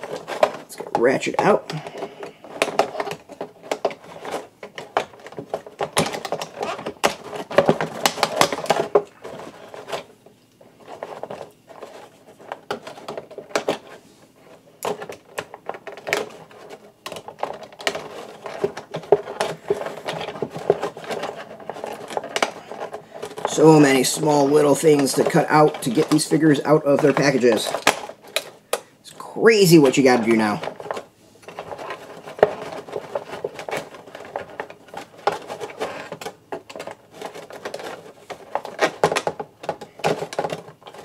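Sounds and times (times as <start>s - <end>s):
plastic packaging crinkling and clicking: 0.0s - 41.0s.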